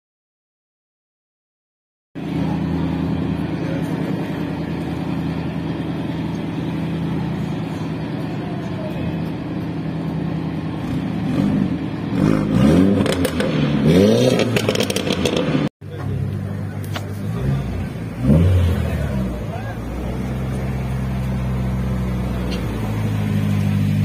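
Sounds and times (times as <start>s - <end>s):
car engine revving: 2.2s - 24.0s.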